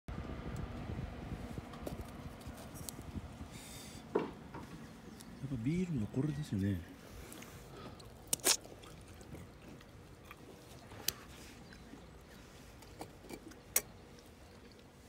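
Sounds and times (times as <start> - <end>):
faint outdoor background: 0.1 - 15.0.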